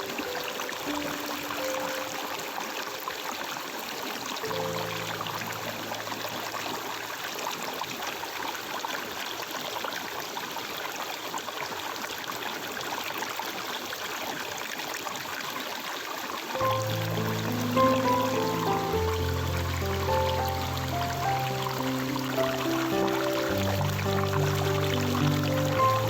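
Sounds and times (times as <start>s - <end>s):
stream water trickling: 0.0s - 26.0s.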